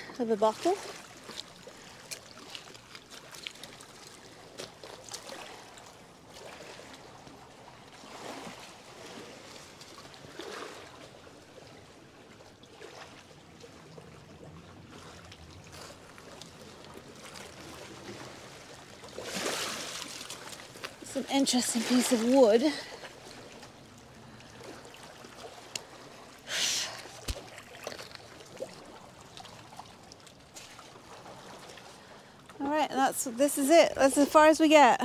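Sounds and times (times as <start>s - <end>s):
river water lapping on rocks: 0.0s - 35.0s.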